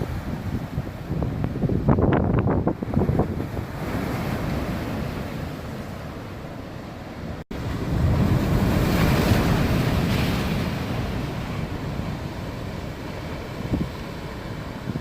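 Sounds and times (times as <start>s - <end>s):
wind buffeting microphone: 0.0s - 6.1s, 7.3s - 15.0s
sea waves breaking: 0.0s - 15.0s.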